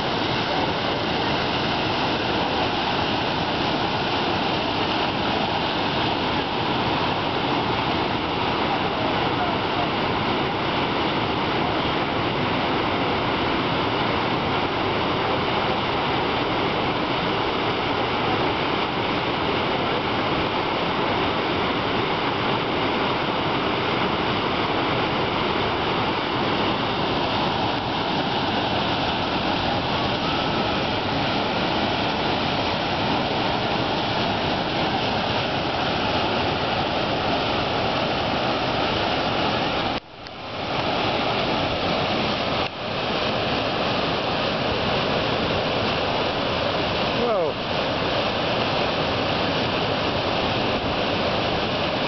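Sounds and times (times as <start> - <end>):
whitewater rapids rushing: 0.0 - 52.0.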